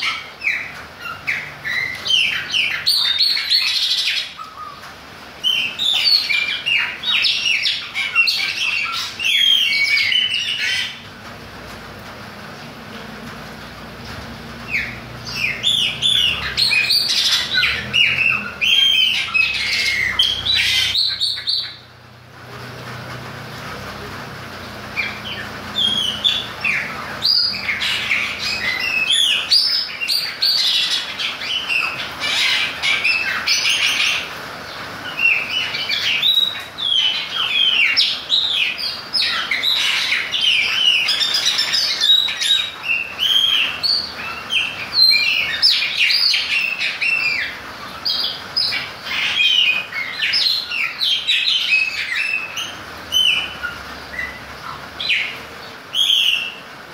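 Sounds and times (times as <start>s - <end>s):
blackbird chirping and squawking: 0.0s - 11.1s, 14.0s - 22.0s, 24.6s - 56.7s.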